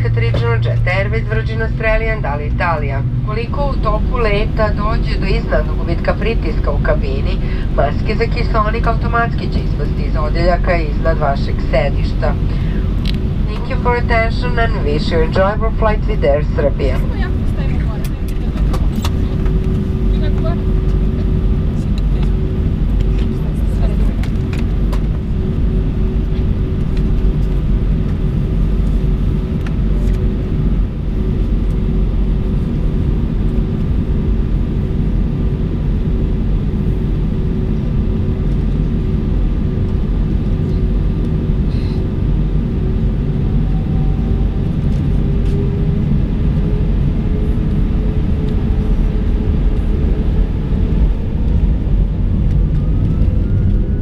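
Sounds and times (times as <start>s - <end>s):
airliner cabin rumble: 0.0s - 54.0s
jet engine whine: 0.0s - 54.0s.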